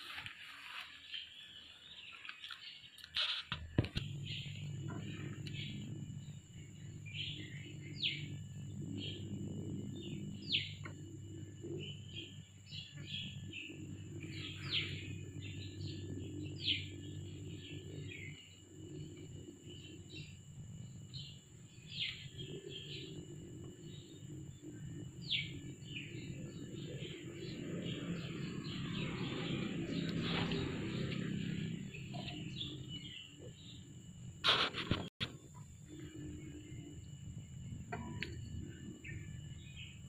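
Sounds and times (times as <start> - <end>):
steady low hum: 0.0 - 40.0
birds chirping: 0.8 - 34.1, 35.9 - 40.0.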